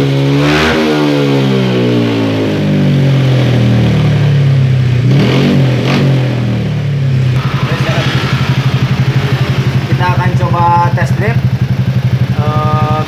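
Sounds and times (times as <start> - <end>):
scooter engine idling and revving: 0.0 - 13.0.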